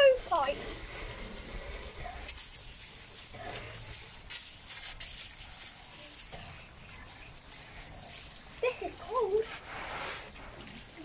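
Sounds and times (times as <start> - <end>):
hose nozzle spraying water: 0.0 - 11.0
water splashing: 0.0 - 11.0.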